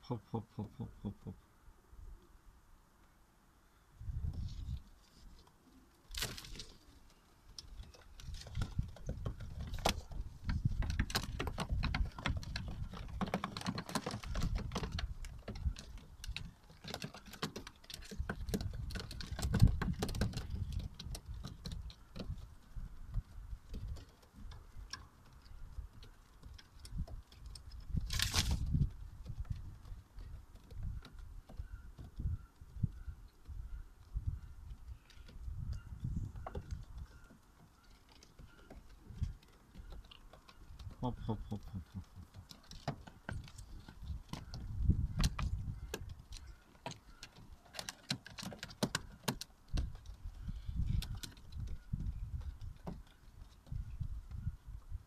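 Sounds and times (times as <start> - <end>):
pigeons clicking and tapping on floor: 4.0 - 55.0.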